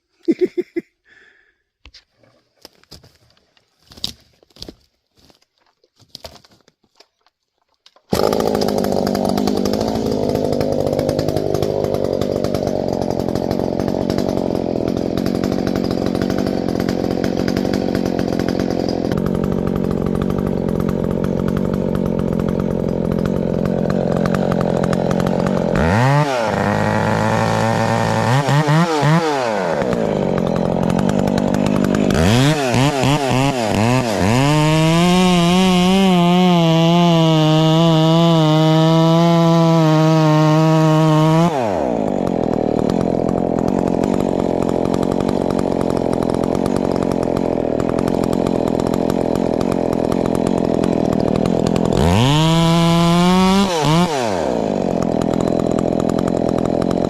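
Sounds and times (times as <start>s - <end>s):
chainsaw running at high speed: 0.3s - 1.4s, 8.1s - 57.0s.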